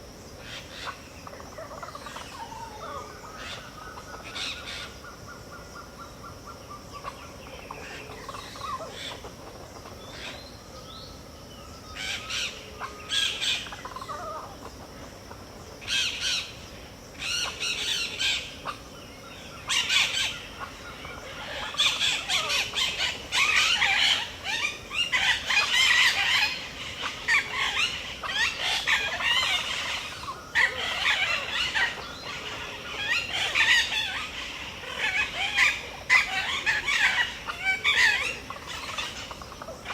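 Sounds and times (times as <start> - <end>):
birds calling: 0.3 - 39.9.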